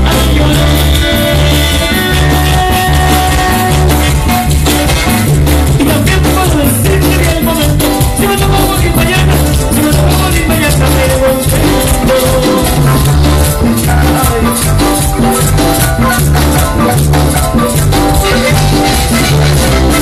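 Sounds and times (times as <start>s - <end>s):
dance music with heavy bass: 0.0s - 20.0s.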